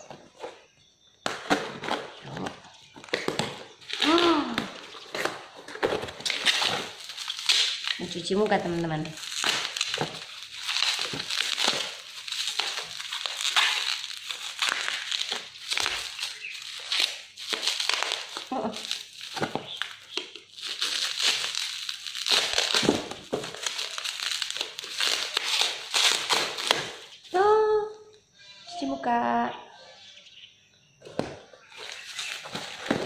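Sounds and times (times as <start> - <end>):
plastic packaging crinkling: 1.4 - 27.2, 31.6 - 33.0.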